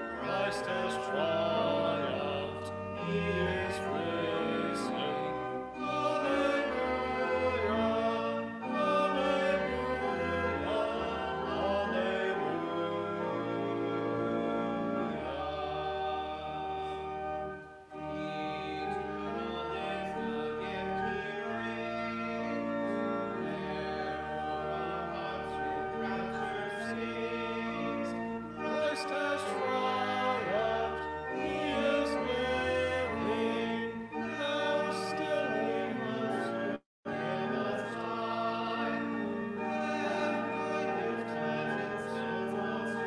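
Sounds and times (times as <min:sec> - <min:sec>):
voices singing: 0:00.0 - 0:16.8, 0:18.2 - 0:43.0.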